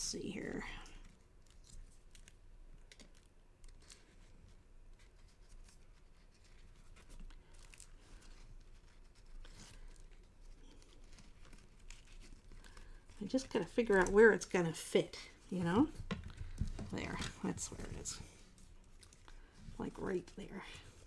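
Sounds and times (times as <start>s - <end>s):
cardstock rustling and ticking: 0.8s - 21.0s.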